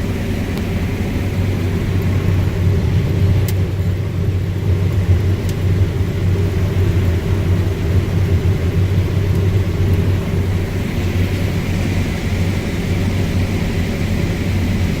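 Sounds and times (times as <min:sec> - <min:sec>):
combine harvester drone: 0:00.0 - 0:15.0.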